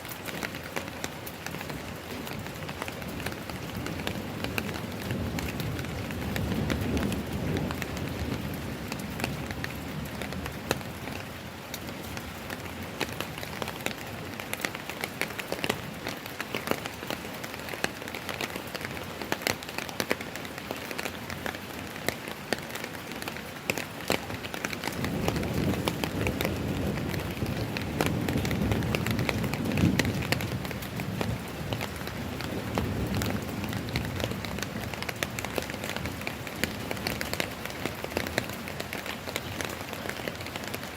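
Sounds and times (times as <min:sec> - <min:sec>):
rain falling: 0:00.0 - 0:40.9
raindrops ticking close by: 0:00.0 - 0:40.9.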